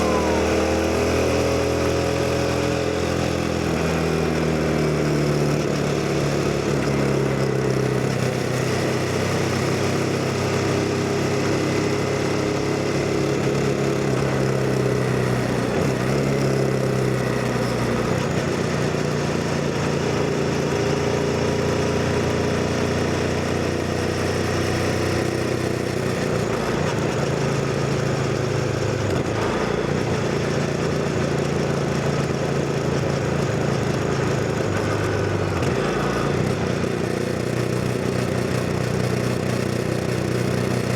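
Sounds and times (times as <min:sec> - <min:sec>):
motorcycle engine revving: 0:00.0 - 0:21.2, 0:21.9 - 0:40.9.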